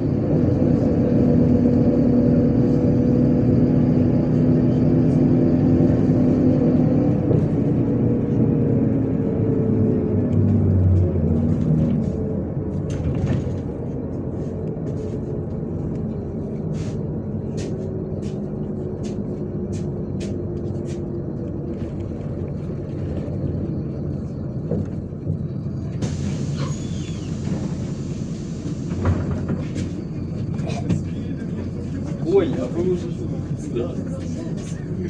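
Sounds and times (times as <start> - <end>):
bus engine and road noise: 0.0 - 35.0.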